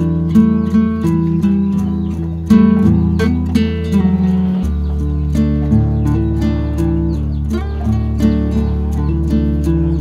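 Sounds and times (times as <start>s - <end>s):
plucked melody: 0.0s - 10.0s.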